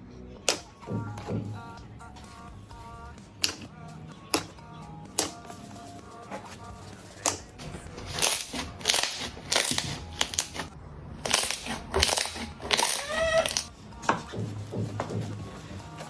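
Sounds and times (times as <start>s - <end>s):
slime squishing by hand: 0.4s - 16.0s.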